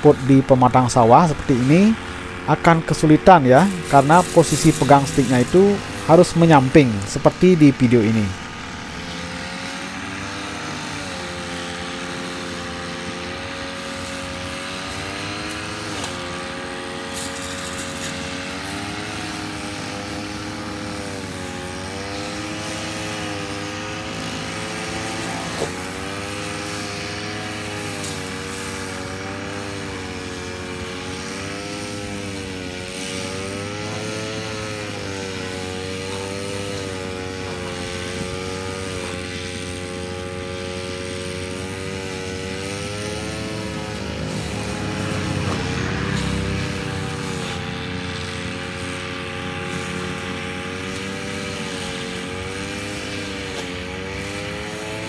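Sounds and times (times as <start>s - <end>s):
brush cutter engine cutting grass: 0.0s - 55.0s.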